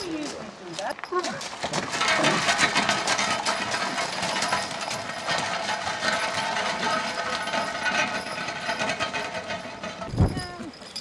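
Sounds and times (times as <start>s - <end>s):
horse-drawn machine rattling: 0.0s - 11.0s.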